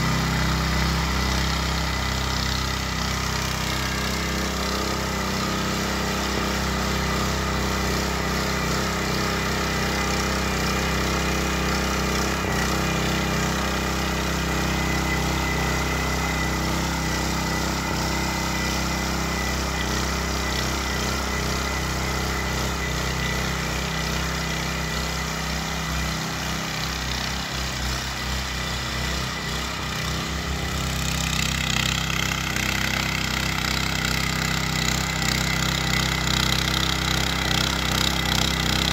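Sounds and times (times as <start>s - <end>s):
rotary tiller engine running: 0.0s - 38.9s
tines churning soil: 0.0s - 38.9s.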